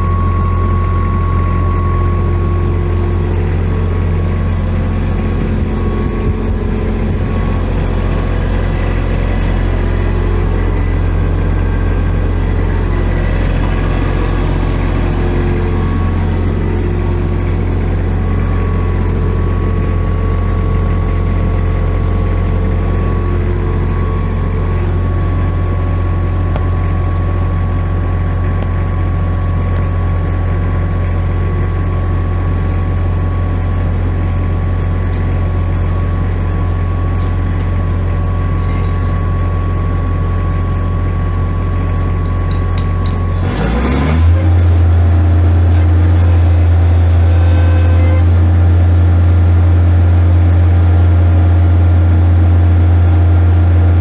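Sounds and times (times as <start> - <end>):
welder generator engine running: 0.0 - 54.0.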